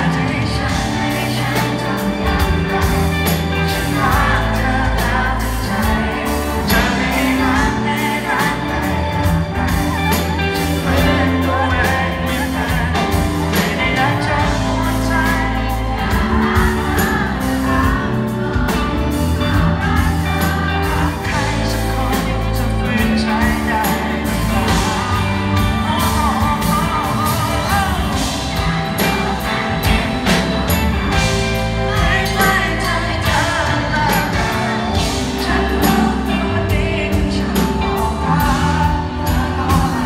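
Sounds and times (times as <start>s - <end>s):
live pop-rock band: 0.0s - 40.0s
man singing into a microphone: 0.0s - 40.0s.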